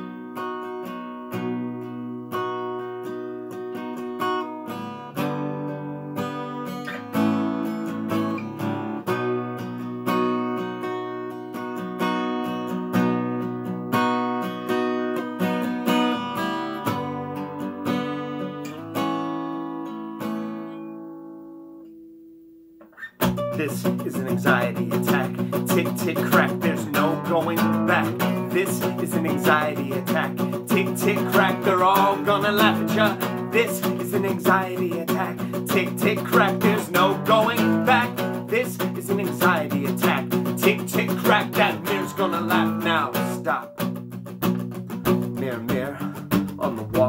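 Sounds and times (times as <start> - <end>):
acoustic guitar picked chords: 0.0 - 47.0.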